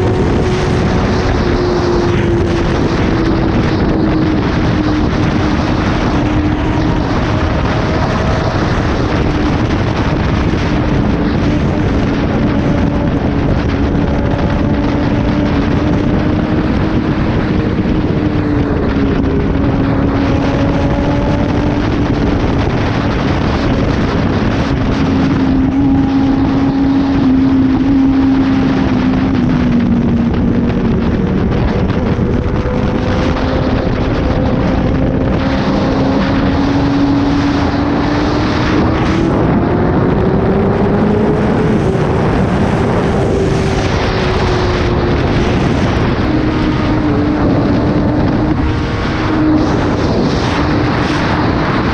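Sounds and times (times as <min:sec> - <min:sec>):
motorcycle engine cruising: 0:00.0 - 0:51.9
wind rushing over microphone: 0:00.0 - 0:51.9.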